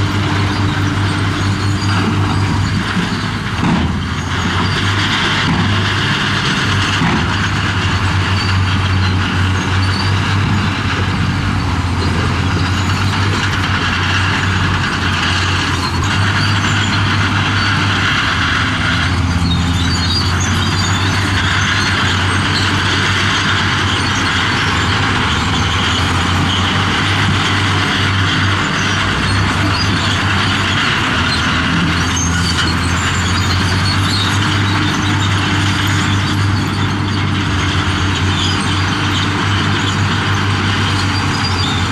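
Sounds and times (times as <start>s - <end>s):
heavy diesel engine clattering: 0.0s - 41.9s.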